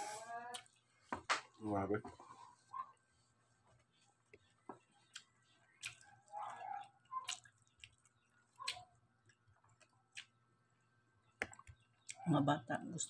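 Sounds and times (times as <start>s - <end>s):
faint chewing: 0.0s - 12.3s.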